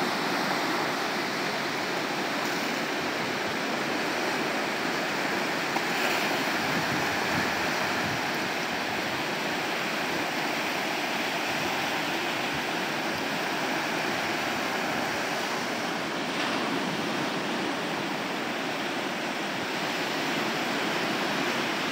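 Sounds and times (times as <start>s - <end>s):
ocean surf breaking on beach: 0.0s - 21.9s.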